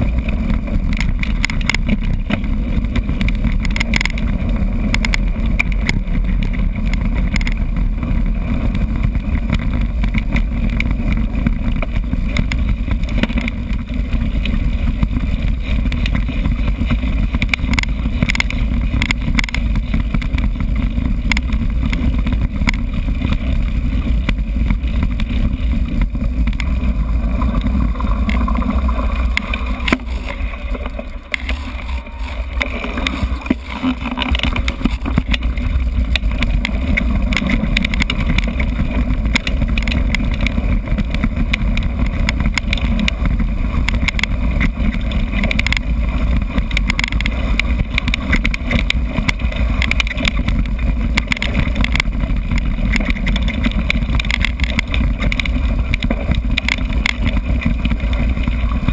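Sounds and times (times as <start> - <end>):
bike rattling on rough trail: 0.0 - 58.9
wind buffeting microphone: 0.0 - 58.9.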